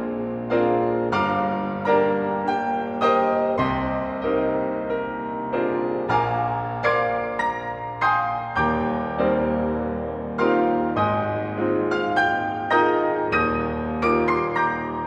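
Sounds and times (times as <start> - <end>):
slow solo piano piece: 0.0 - 15.0.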